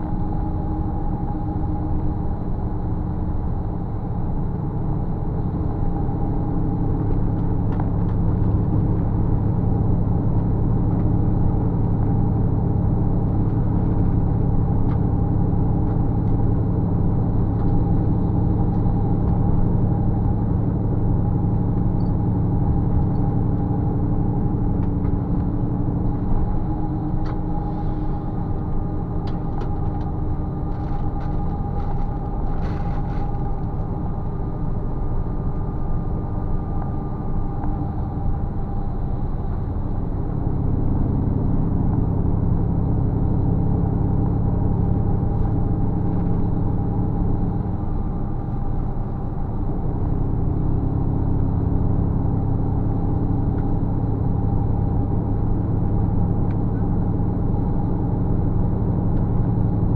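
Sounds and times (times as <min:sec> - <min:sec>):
bus engine and tyre drone: 0:00.0 - 0:59.9.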